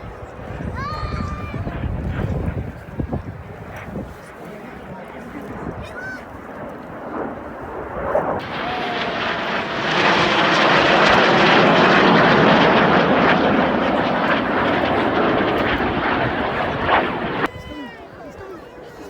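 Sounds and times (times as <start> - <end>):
airplane flying past: 0.0 - 17.5.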